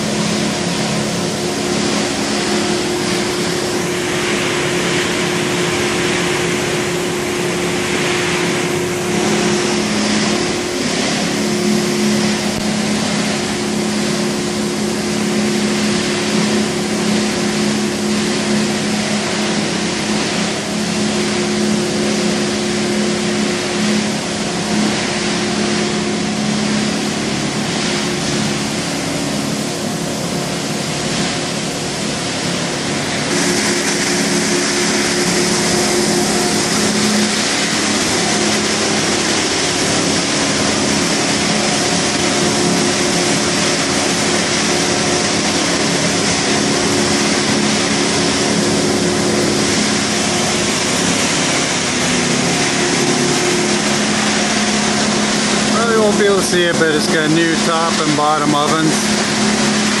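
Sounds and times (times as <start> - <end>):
machine hum: 0.0 - 60.0.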